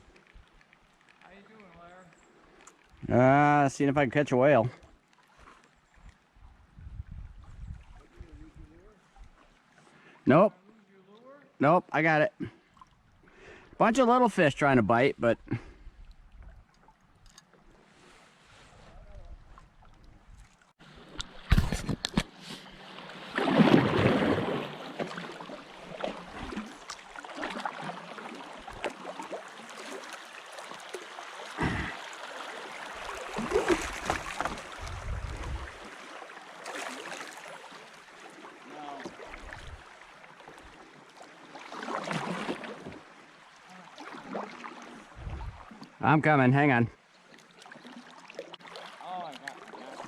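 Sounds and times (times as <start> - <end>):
water splashing and lapping: 4.7 - 11.6, 12.4 - 14.1, 15.4 - 46.2, 47.0 - 50.0.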